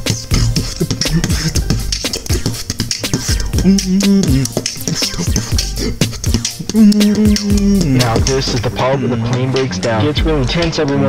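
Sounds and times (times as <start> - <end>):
beatboxing: 0.0 - 11.0.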